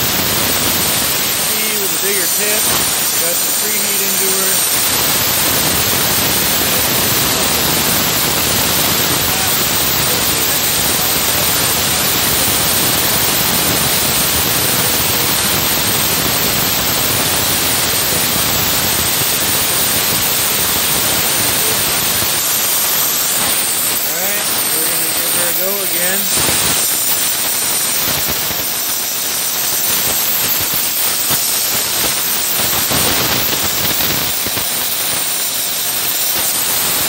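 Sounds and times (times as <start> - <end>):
welding torch hissing: 0.0 - 37.0.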